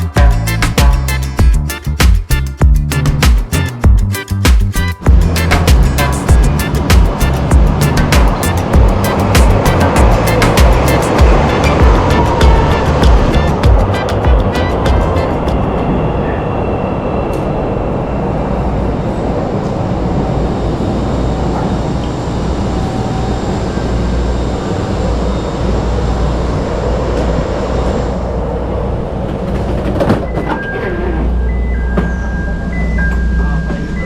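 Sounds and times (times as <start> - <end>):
train wheels rumbling on track: 4.7 - 34.0.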